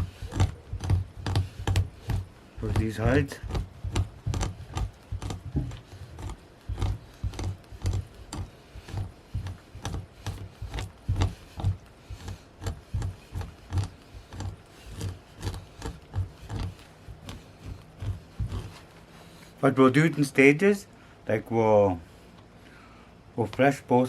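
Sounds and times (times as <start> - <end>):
scraper rasping over hide: 0.0 - 19.6.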